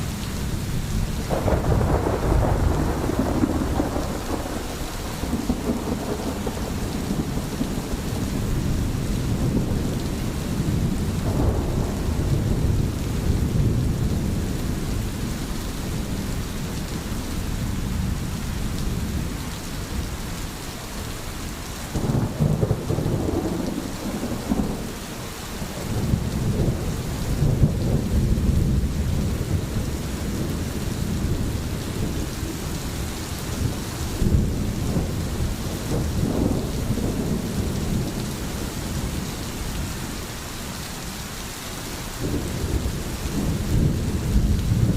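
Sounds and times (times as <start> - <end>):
steady rain: 0.0 - 44.9
rolling thunder: 0.7 - 20.1, 21.9 - 25.0, 25.6 - 39.4, 42.2 - 44.9.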